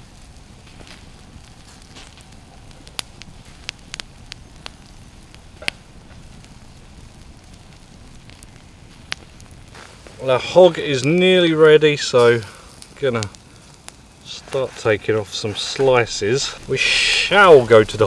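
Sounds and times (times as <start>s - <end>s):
campfire crackling: 0.0s - 18.0s
sharp pops of fire: 0.0s - 18.0s.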